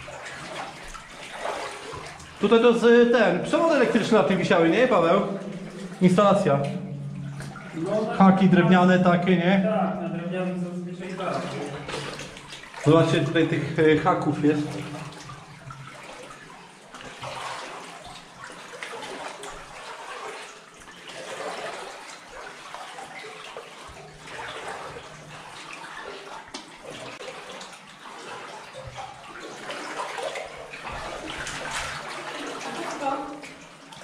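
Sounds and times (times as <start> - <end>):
water sloshing and splashing: 0.0 - 34.0.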